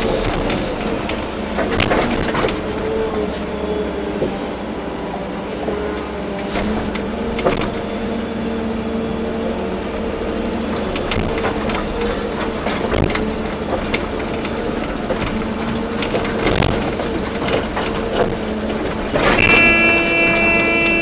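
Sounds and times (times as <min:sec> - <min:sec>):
excavator engine and hydraulics whine: 0:00.0 - 0:21.0.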